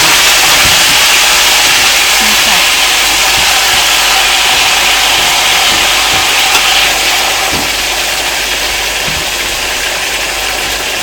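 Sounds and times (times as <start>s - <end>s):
fish sizzling in hot oil: 0.0s - 11.0s
oil pops and crackles: 0.0s - 11.0s.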